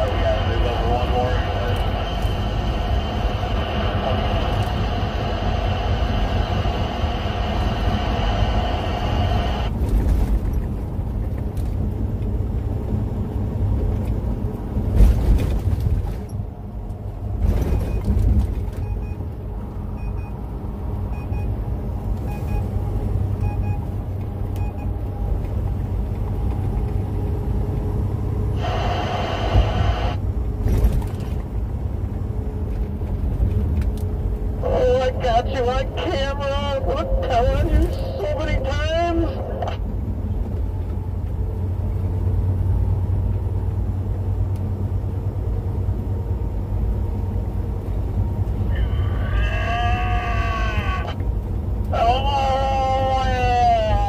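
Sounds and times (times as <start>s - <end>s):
vehicle road and engine rumble: 0.0s - 54.0s.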